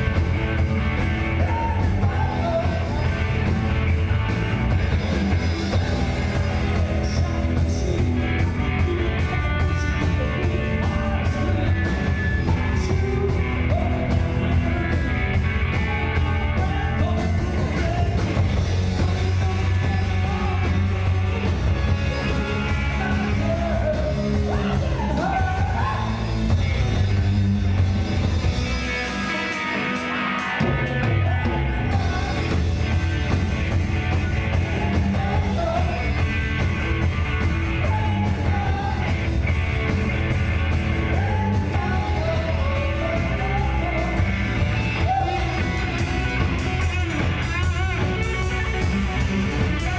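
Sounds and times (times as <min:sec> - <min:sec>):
bass guitar: 0:00.0 - 0:49.9
distorted electric guitars: 0:00.0 - 0:49.9
drums: 0:00.0 - 0:49.9
person singing and yelling: 0:01.0 - 0:27.0, 0:30.0 - 0:33.0, 0:33.9 - 0:49.9.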